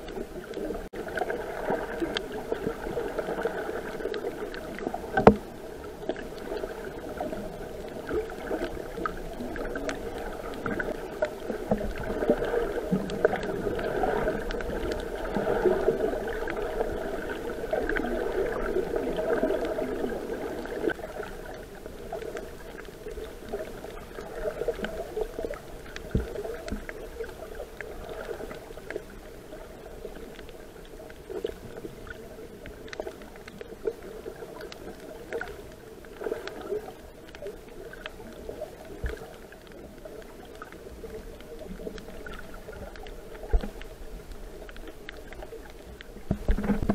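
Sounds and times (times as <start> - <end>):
faint clicks and crackles: 0.0 - 46.9
underwater rushing water: 0.0 - 46.9.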